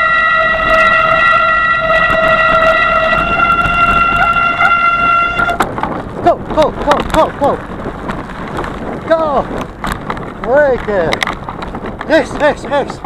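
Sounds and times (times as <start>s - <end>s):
tyres rumbling on dirt trail: 0.0s - 13.0s.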